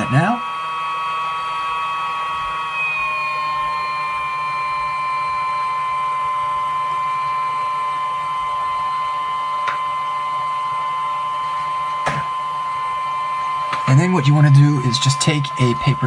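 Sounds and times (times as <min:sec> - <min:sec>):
fan electric whine: 0:00.0 - 0:16.0.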